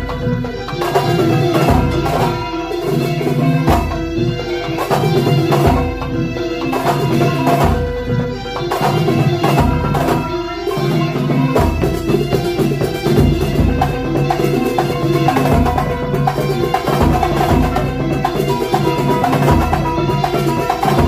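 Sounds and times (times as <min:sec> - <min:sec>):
fast drum strikes: 0:00.0 - 0:21.0
sustained melodic tones: 0:00.0 - 0:21.0.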